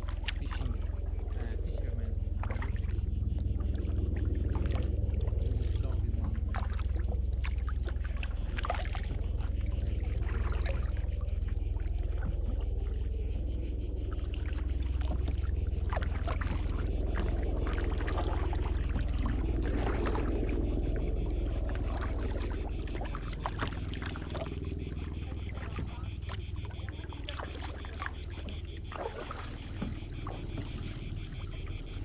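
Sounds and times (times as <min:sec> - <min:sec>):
kayak paddle splashing water: 0:00.0 - 0:32.0
steady low rumble: 0:00.0 - 0:32.0.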